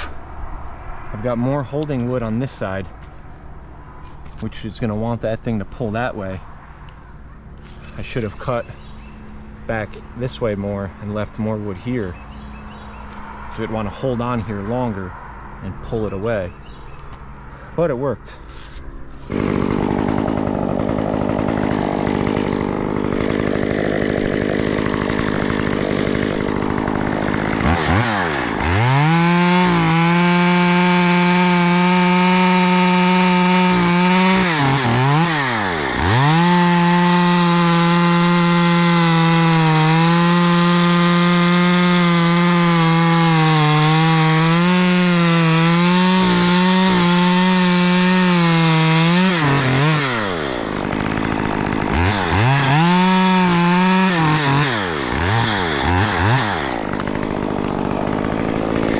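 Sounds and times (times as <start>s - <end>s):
chainsaw revving and cutting wood: 0.0s - 0.3s, 7.5s - 16.9s, 18.4s - 58.9s.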